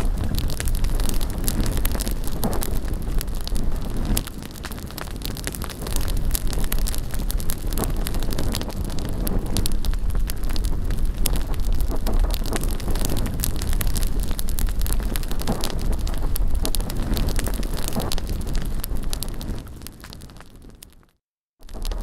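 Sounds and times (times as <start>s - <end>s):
wind rumble on microphone: 0.0s - 21.0s, 21.6s - 22.0s
bonfire crackling and popping: 0.0s - 22.0s.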